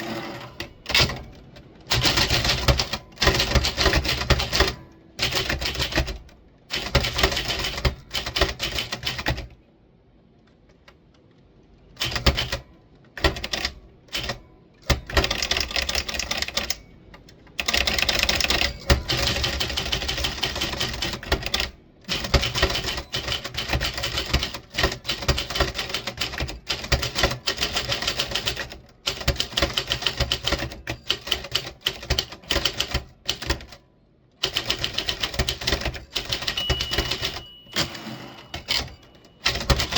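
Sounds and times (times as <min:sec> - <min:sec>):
typewriter key strikes: 0:00.6 - 0:09.5, 0:13.2 - 0:16.8, 0:17.6 - 0:33.8, 0:34.4 - 0:39.9.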